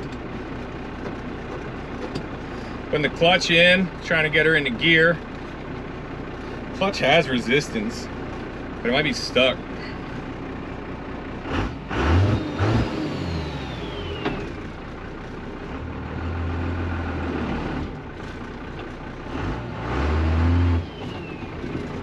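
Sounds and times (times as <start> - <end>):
diesel engine revving: 1.1 - 22.0.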